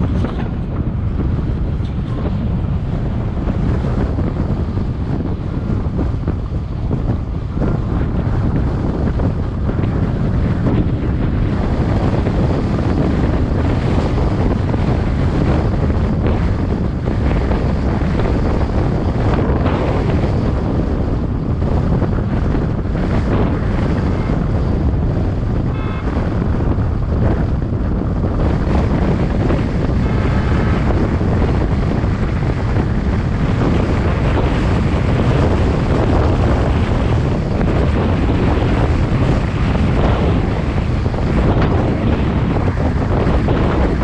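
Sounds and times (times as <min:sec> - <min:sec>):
car road noise: 0:00.0 - 0:44.0
wind rushing over microphone: 0:00.0 - 0:44.0.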